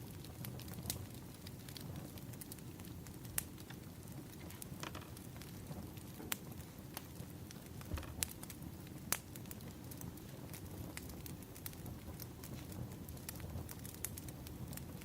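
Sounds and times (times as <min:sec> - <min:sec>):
firewood popping: 0:00.0 - 0:15.0
low rumble of flames: 0:00.0 - 0:15.0.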